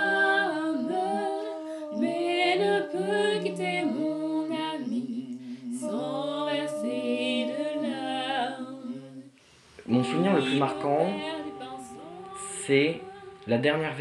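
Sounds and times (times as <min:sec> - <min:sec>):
voices singing a cappella: 0:00.0 - 0:14.0.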